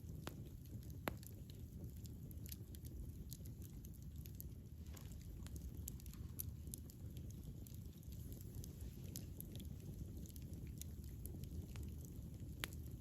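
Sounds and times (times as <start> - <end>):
burning wood crackling and popping: 0.0 - 13.0
campfire flames rumbling: 0.0 - 13.0.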